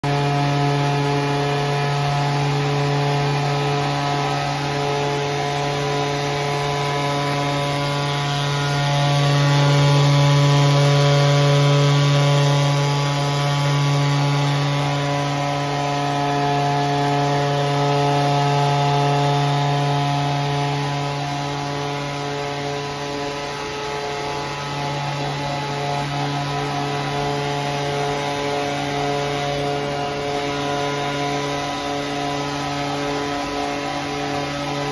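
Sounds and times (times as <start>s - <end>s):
chainsaw engine buzzing: 0.0s - 34.9s.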